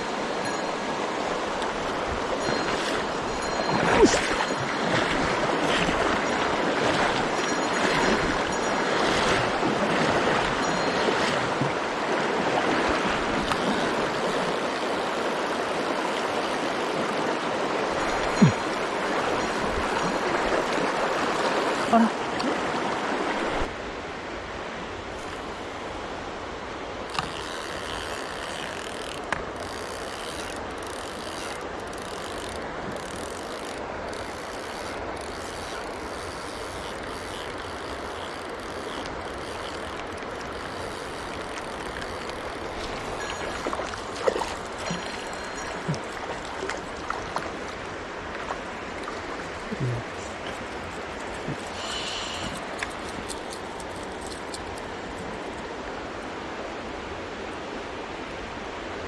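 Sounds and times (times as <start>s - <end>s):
mountain stream running: 0.0s - 59.0s.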